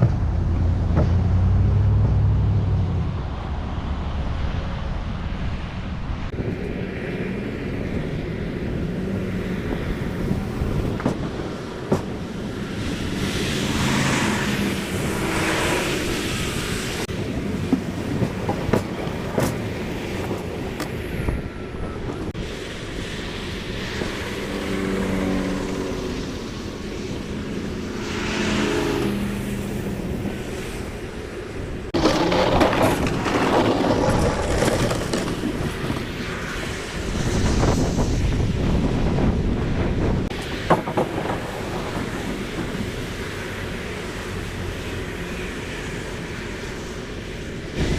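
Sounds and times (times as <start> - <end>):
outdoor noise: 0.0 - 47.9
vehicle engine rumbling: 0.0 - 47.9.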